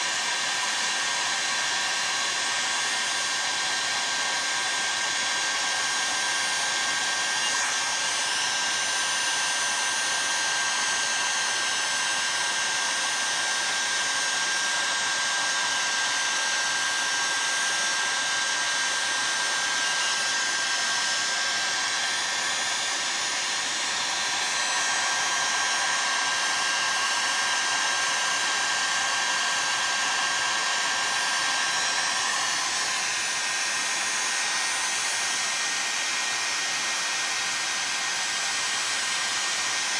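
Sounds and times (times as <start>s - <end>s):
heat gun blowing with high whine: 0.0s - 39.9s.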